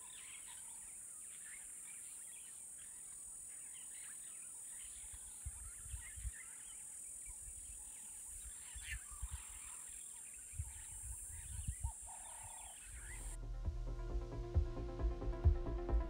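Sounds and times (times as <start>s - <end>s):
short bird calls: 0.0s - 13.4s.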